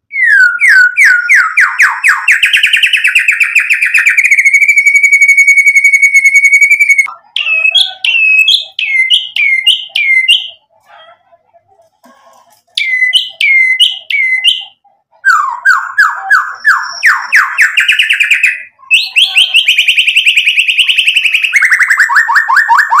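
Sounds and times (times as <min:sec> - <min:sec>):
bird singing trills and whistles: 0:00.1 - 0:10.6, 0:12.8 - 0:23.0.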